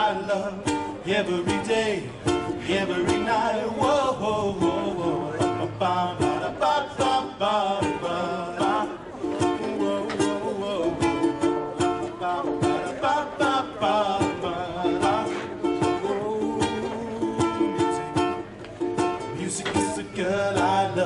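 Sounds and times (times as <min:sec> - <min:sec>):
strummed strings: 0:00.0 - 0:21.0.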